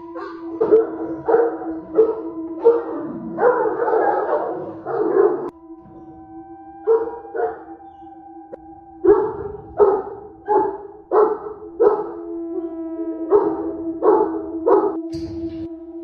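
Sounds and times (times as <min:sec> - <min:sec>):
dogs barking deeply: 0:00.0 - 0:15.6
steady held tone: 0:00.0 - 0:16.0.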